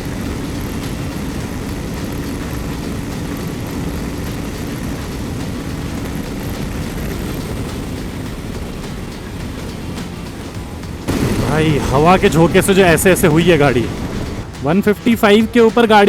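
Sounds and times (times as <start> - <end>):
motorcycle engine at high revs: 0.0 - 14.6
wind rush on microphone: 0.0 - 14.7.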